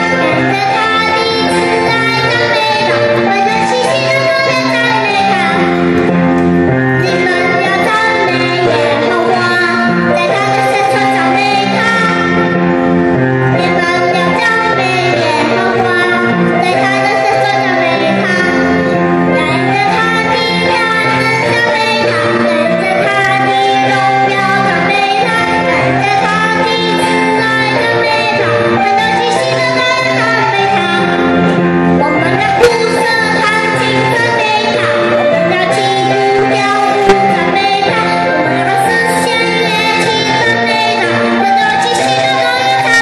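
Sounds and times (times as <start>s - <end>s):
boy singing into microphone: 0.0s - 6.1s, 6.9s - 12.6s, 13.5s - 43.0s
recorded backing track: 0.0s - 43.0s.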